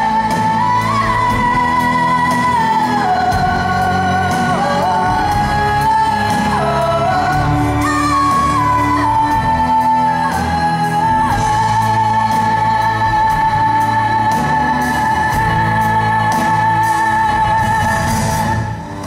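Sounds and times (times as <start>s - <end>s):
live band with steady beat: 0.0s - 19.0s.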